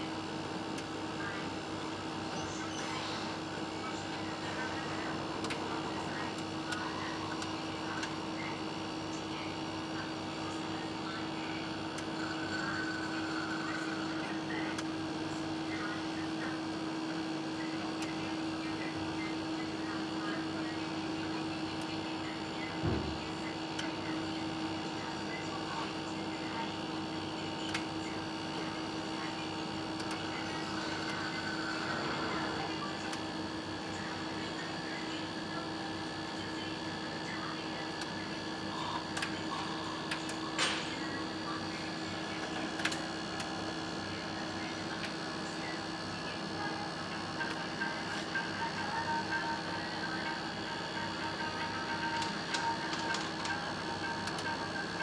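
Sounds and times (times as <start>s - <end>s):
centrifuges humming: 0.0s - 55.0s.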